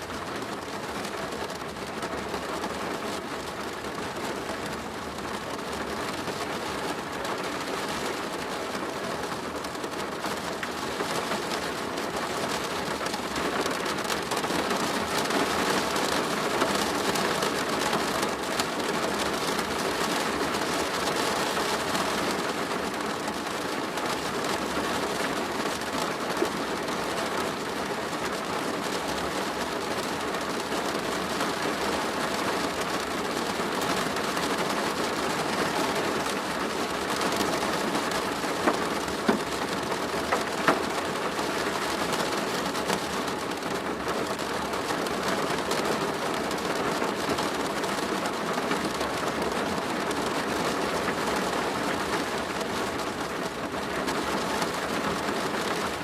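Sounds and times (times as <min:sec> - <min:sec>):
rain on a plastic roof: 0:00.0 - 0:56.0.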